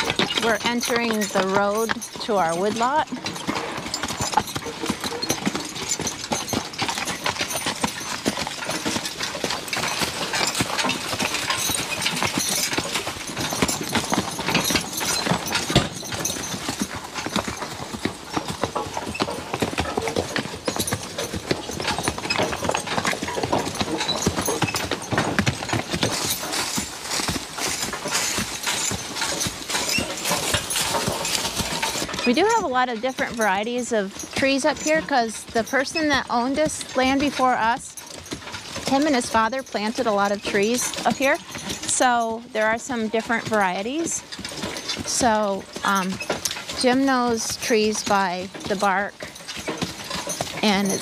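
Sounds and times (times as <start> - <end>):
harness and wagon clinking: 0.0 - 51.0
hooves clip-clopping on dirt: 0.0 - 51.0.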